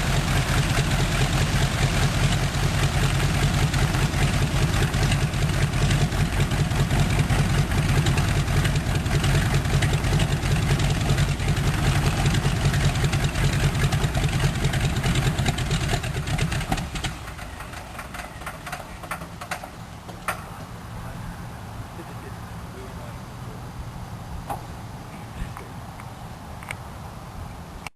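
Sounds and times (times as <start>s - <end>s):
radial aircraft engine running: 0.0s - 27.2s.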